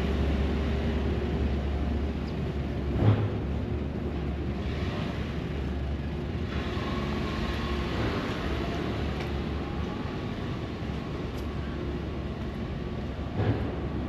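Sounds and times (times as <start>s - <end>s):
wet street noise: 0.0s - 14.0s.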